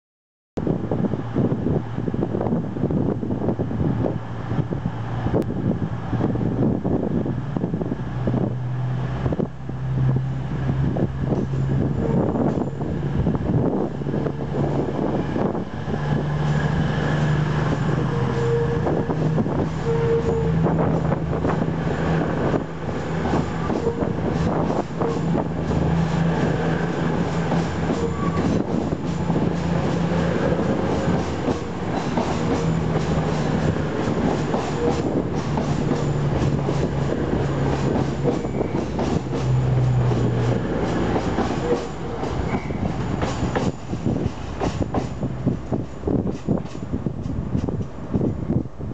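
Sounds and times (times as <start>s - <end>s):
diesel engines humming: 2.9s - 48.6s.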